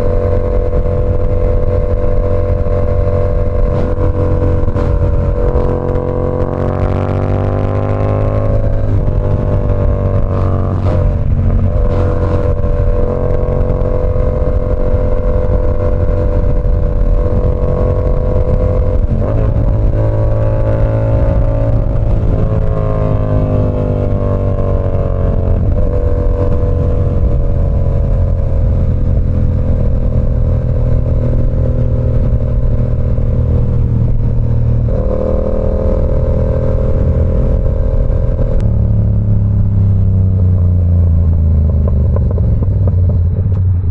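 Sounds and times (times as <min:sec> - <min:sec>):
motorcycle engine riding: 0:00.0 - 0:43.9.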